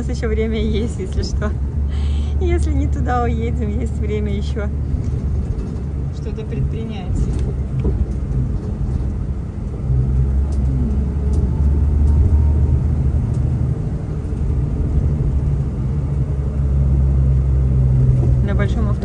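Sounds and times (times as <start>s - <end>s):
coach engine drone: 0.0s - 19.0s.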